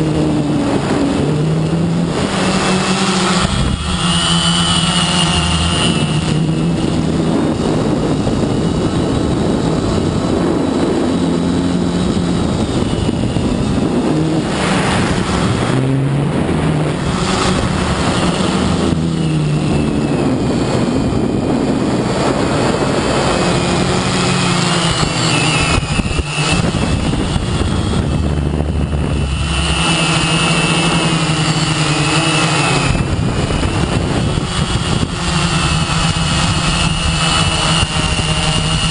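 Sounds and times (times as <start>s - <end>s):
drone propellers whirring: 0.0s - 38.9s.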